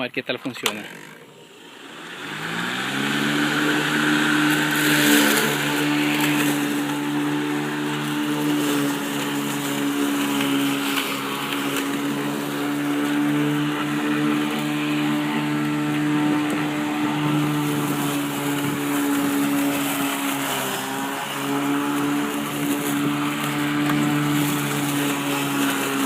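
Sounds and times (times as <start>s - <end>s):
electric lawnmower mowing: 0.4s - 26.0s.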